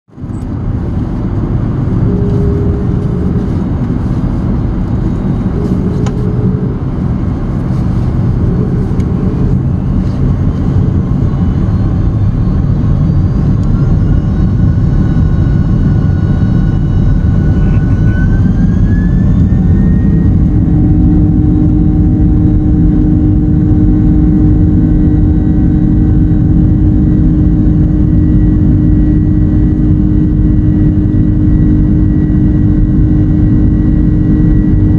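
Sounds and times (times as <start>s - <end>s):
jet engine rumble in cabin: 0.1s - 34.9s
jet engine whining tones: 0.2s - 34.9s.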